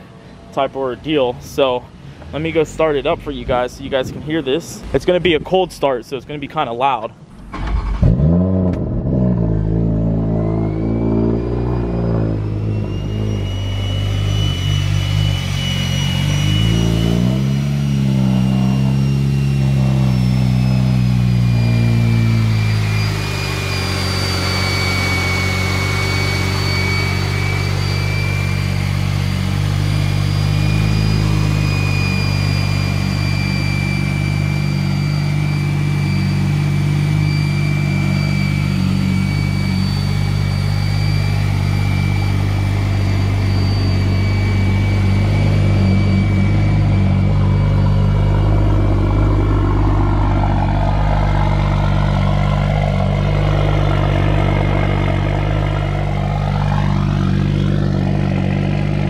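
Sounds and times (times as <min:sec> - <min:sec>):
car engine idling: 0:00.0 - 0:59.0
thin high whine: 0:08.7 - 0:59.0.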